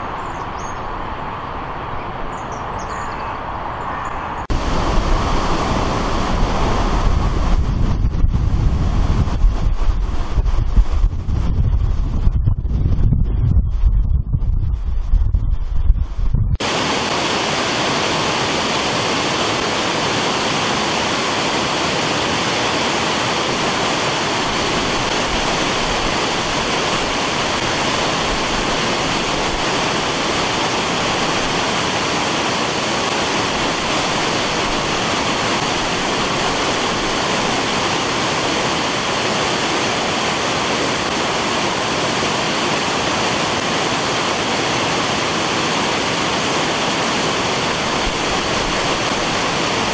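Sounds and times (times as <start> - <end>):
floodwater roaring through screen: 0.0 - 11.6, 16.6 - 49.9.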